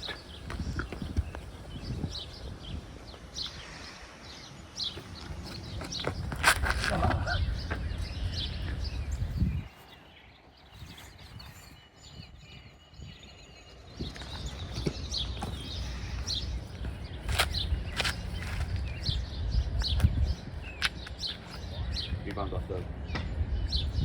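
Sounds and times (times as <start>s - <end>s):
small birds chirping: 0.0s - 24.0s
wind rumbling on microphone: 0.0s - 24.0s.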